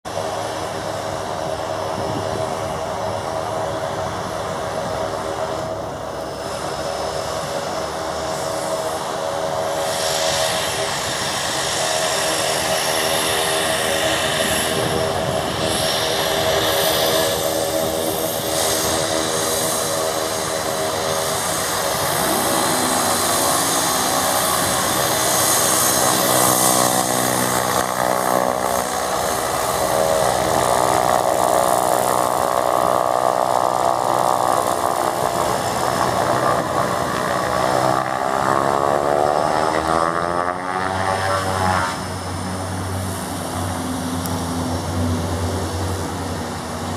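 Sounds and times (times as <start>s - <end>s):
turboprop aircraft taxiing: 0.0s - 46.9s.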